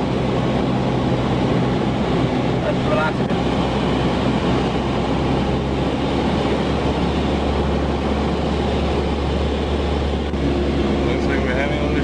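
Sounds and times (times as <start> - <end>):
air rushing over cabin: 0.0 - 12.0
propeller airplane engine hum: 0.0 - 12.0.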